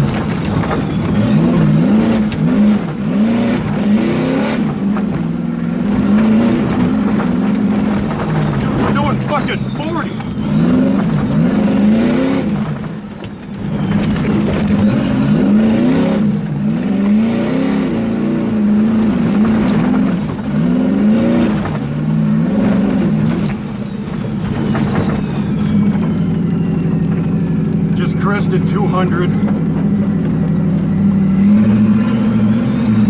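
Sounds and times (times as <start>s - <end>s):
engine accelerating hard: 0.0s - 33.0s.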